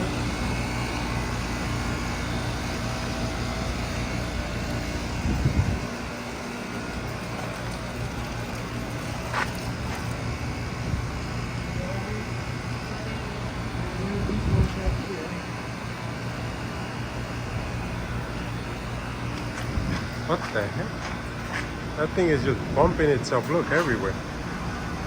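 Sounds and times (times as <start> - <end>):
air conditioner units humming: 0.0 - 25.0.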